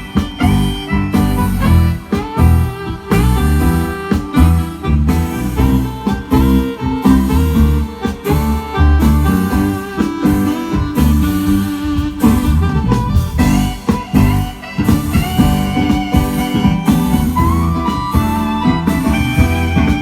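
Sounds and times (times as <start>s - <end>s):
guitar melody: 0.0s - 20.0s
live band playing: 0.0s - 20.0s.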